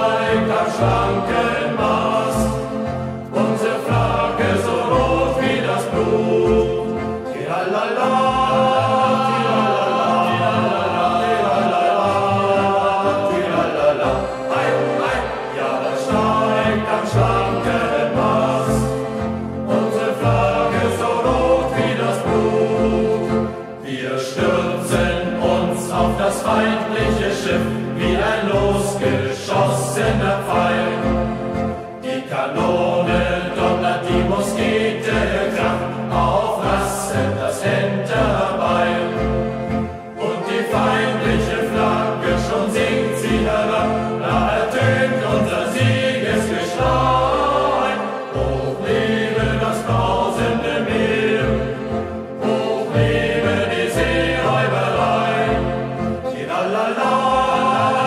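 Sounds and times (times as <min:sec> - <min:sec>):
choir singing in unison: 0:00.0 - 0:58.0
instrumental accompaniment with bass: 0:00.0 - 0:58.0.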